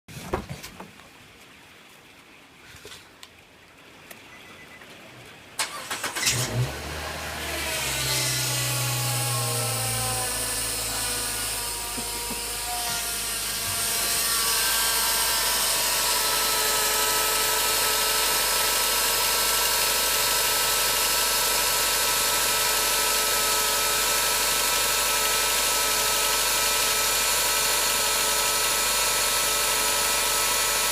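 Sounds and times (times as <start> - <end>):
car engine cranking and starting: 5.6 - 30.9
engine idling: 5.6 - 30.9
high-pitched engine whine: 5.6 - 30.9.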